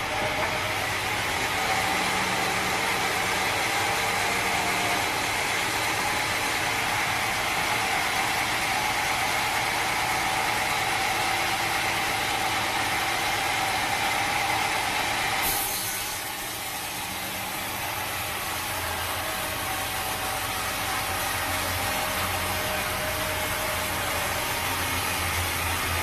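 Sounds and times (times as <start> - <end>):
sawmill machinery whining: 0.0 - 26.0.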